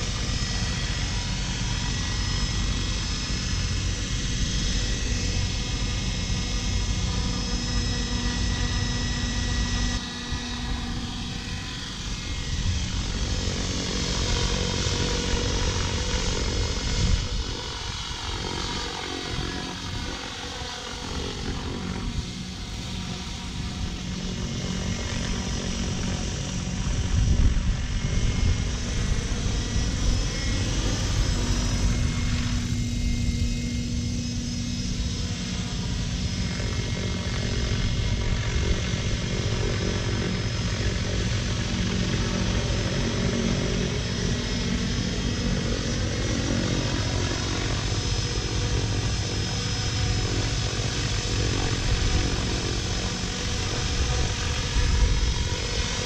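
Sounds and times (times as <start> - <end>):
model helicopter buzzing: 0.0 - 56.0.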